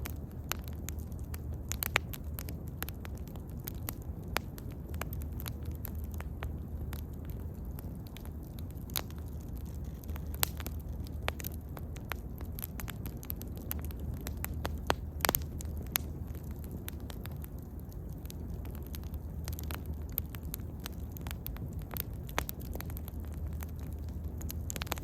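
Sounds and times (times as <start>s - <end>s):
bonfire crackling and popping: 0.0s - 25.0s
low rumble of flames: 0.0s - 25.0s.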